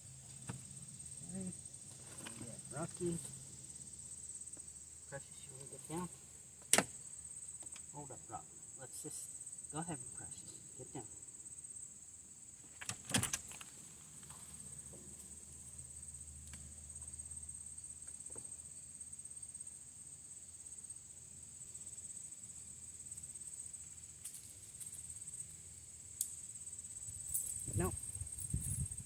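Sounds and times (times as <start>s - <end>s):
insect chorus chirring: 0.0s - 29.0s.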